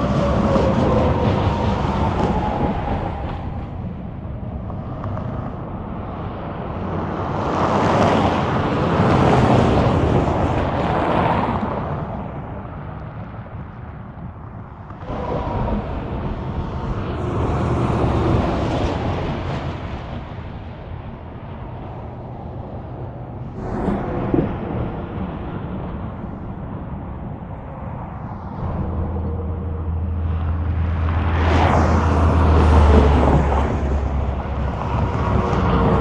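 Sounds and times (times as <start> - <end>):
highway traffic passing: 0.0 - 36.0
wind on microphone: 0.0 - 36.0.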